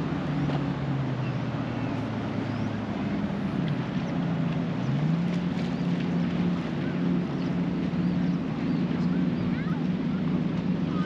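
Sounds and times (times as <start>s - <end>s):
jet ski engine drone: 0.0s - 11.0s.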